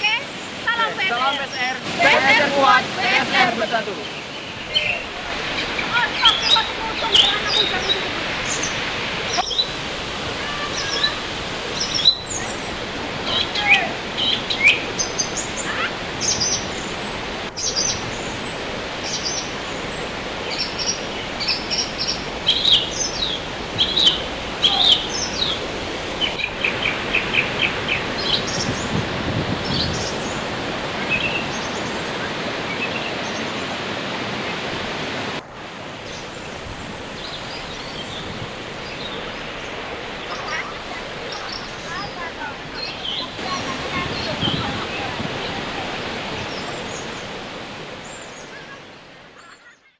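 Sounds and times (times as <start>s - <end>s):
small birds chirping: 0.0s - 34.7s, 36.0s - 49.9s
waterfall rushing: 0.0s - 49.6s.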